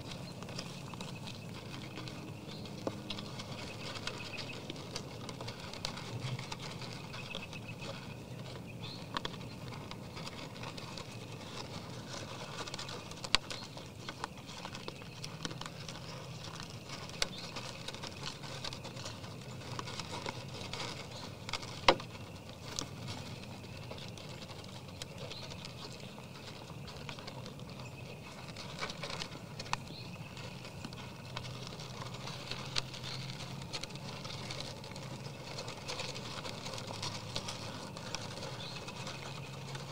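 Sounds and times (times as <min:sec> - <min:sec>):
deer chewing feed: 0:00.0 - 0:39.9
low steady hum: 0:00.0 - 0:39.9.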